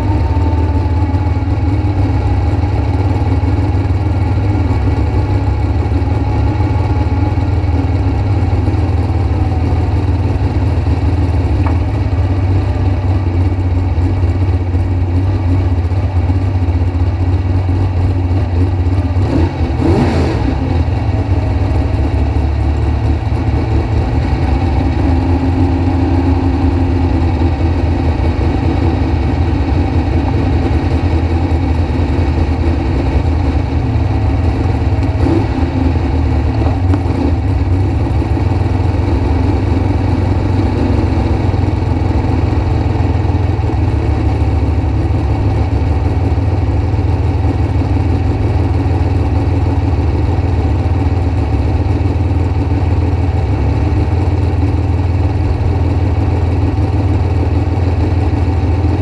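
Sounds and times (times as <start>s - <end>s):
dragster engine idling: 0.0s - 59.0s.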